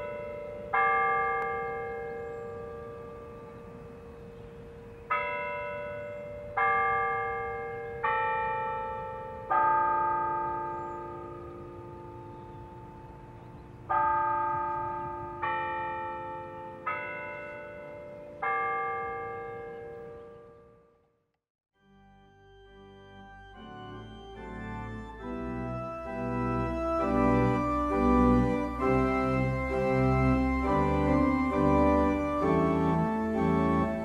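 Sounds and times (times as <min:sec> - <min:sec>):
church bells ringing a tune: 0:00.0 - 0:21.0, 0:21.8 - 0:34.0.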